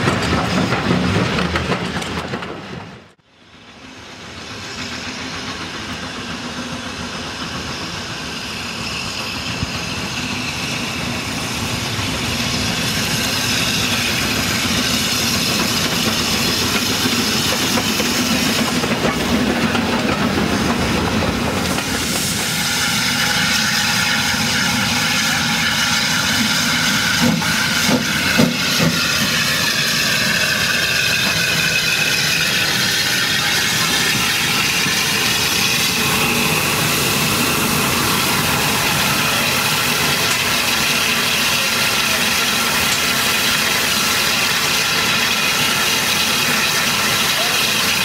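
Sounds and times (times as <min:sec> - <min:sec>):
steam locomotive hissing: 0:03.3 - 0:48.0.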